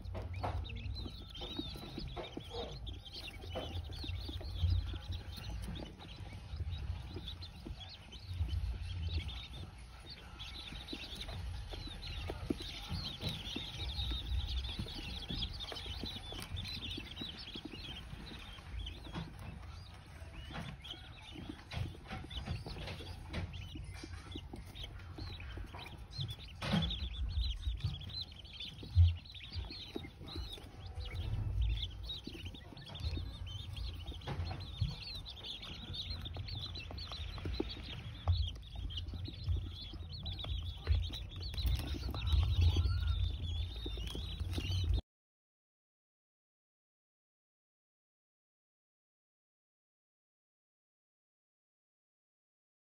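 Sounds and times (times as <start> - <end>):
pecking in wood shavings: 0.0 - 45.0
quail chicks peeping: 0.0 - 45.0.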